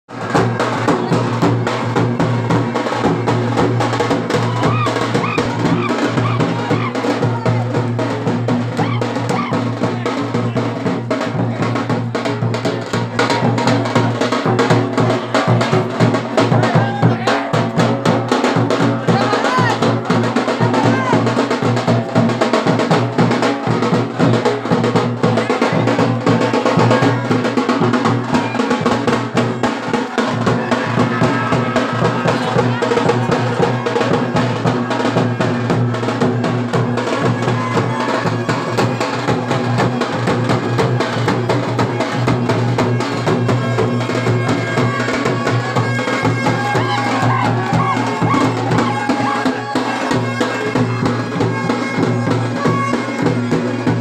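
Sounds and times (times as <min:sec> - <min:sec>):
reedy wind instrument: 0:00.1 - 0:10.6, 0:12.4 - 0:54.0
fast procession drumming: 0:00.1 - 0:54.0.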